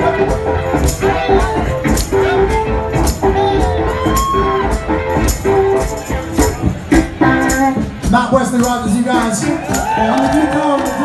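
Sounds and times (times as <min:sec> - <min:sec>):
drum beat: 0:00.0 - 0:11.0
live blues-rock band: 0:00.0 - 0:11.0
shaker percussion: 0:00.2 - 0:11.0.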